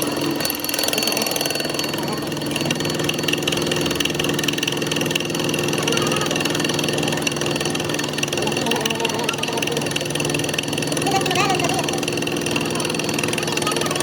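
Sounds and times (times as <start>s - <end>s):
workshop machine rattling: 0.0s - 14.0s.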